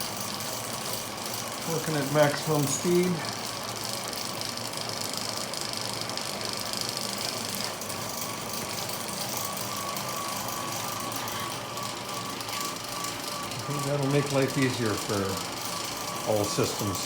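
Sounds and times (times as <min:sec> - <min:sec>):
faint wavering whine: 0:00.0 - 0:04.5, 0:06.5 - 0:17.0
small motors whirring: 0:00.0 - 0:17.0.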